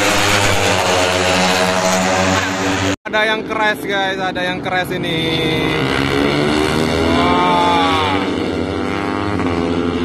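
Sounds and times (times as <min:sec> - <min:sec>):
racing motorcycle engines passing: 0:00.0 - 0:10.0.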